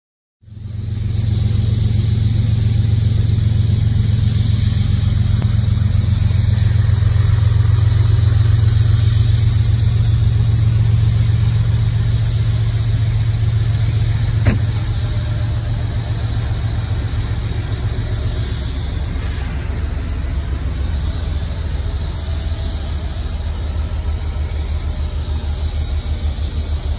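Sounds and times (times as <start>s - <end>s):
diesel locomotive engine drone: 0.4s - 26.9s.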